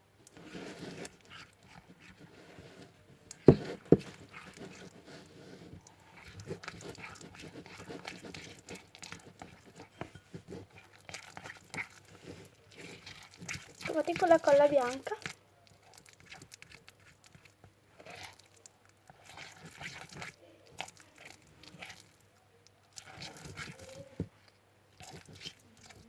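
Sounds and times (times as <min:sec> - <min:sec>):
slime being stirred: 0:00.2 - 0:26.0.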